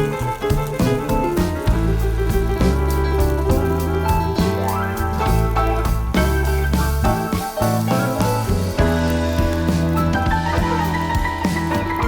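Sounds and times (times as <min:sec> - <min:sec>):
keyboard: 0:00.0 - 0:12.0
low bass: 0:00.0 - 0:12.0
plucked guitar: 0:00.0 - 0:12.0.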